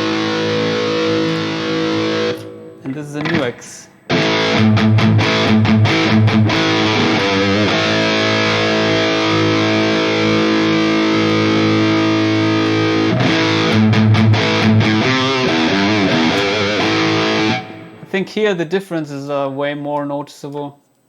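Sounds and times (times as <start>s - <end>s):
distorted electric guitar: 0.0s - 18.2s.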